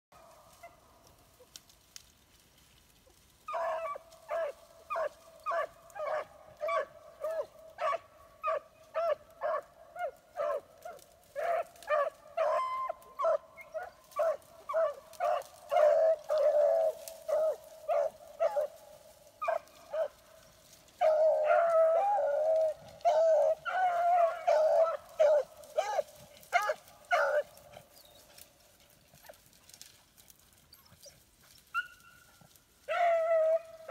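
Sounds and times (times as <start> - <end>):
hounds baying: 3.0 - 33.9.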